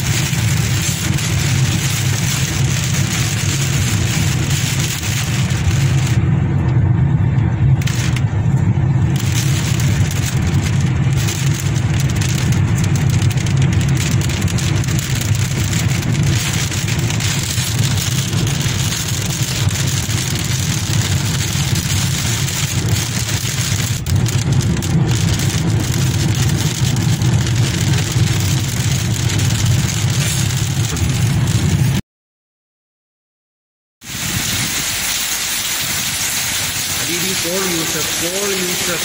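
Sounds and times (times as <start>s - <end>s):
tyres hissing on wet road: 0.0s - 6.4s, 8.9s - 31.6s, 34.0s - 39.0s
car road and engine rumble: 0.0s - 32.0s, 34.1s - 39.0s
rain on car: 0.0s - 32.0s, 34.0s - 39.0s.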